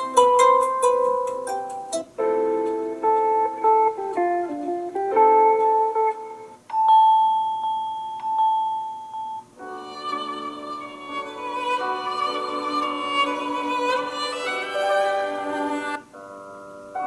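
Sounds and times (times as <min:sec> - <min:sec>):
ringtone melody: 0:00.0 - 0:04.2, 0:06.7 - 0:17.0
long held tone with higher notes: 0:00.0 - 0:17.0.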